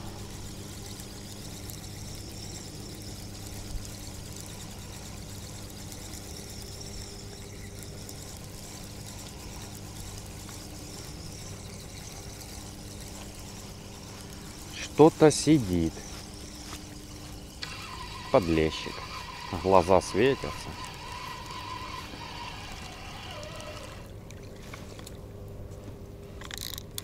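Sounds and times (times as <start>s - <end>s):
fishing reel cranking: 0.0s - 24.1s, 26.4s - 27.0s.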